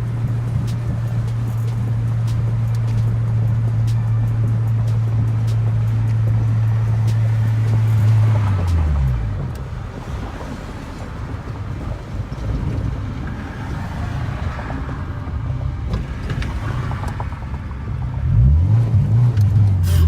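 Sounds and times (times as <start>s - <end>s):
car engine running: 0.0s - 20.0s
road noise: 0.0s - 20.0s.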